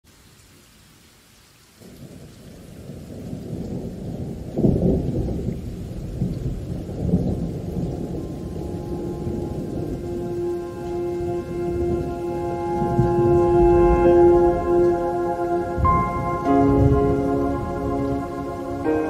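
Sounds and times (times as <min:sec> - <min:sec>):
rain: 0:00.0 - 0:19.0
thunder rolling: 0:02.8 - 0:19.0.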